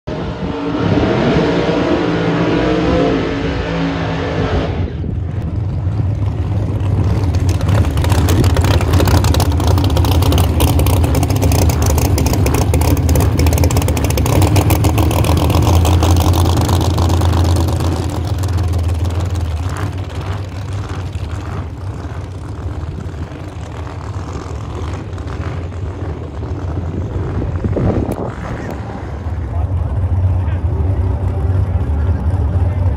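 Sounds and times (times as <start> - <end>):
drag car engine revving: 0.1 - 32.9.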